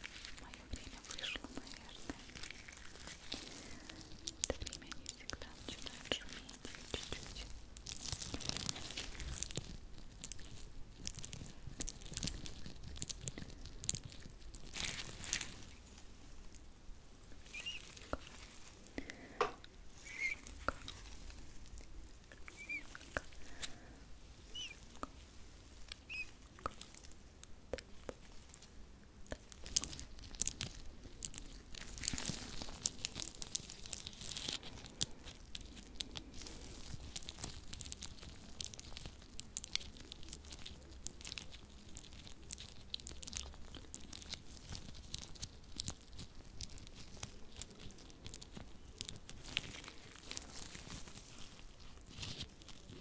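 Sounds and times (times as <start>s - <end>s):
hands rubbing crackling: 0.0s - 53.0s.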